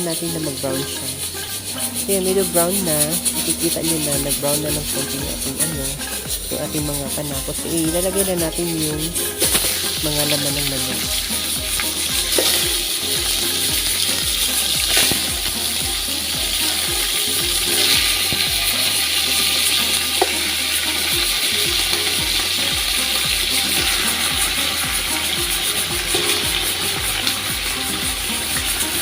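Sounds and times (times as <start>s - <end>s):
chicken sizzling in hot oil: 0.0s - 29.0s.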